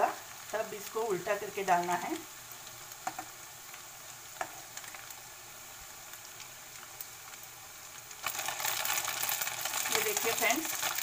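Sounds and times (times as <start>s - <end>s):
noodles sizzling in hot oil: 0.0s - 11.0s.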